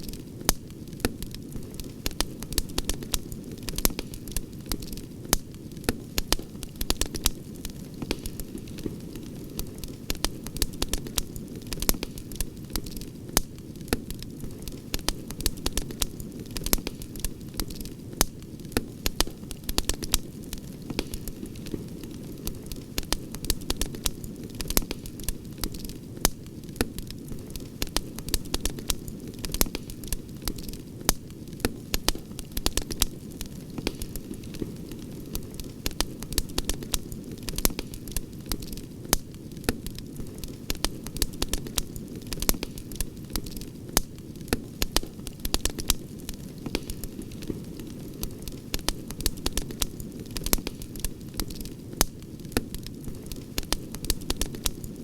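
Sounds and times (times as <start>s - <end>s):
campfire crackling and popping: 0.0s - 55.0s
low noise of burning flames: 0.0s - 55.0s.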